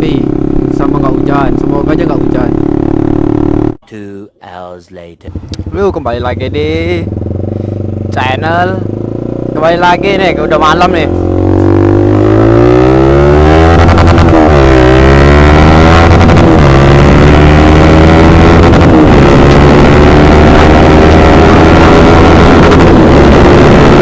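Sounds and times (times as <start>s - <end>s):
motorcycle engine accelerating: 0.0s - 3.8s, 5.2s - 24.0s.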